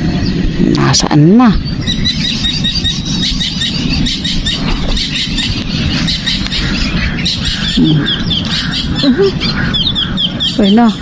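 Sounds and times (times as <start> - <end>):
small birds chirping: 0.0 - 11.0
wind rumble on microphone: 0.0 - 11.0.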